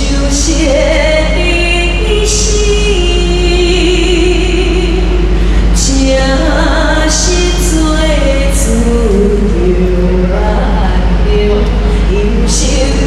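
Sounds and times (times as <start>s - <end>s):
woman singing into microphone: 0.0s - 13.0s.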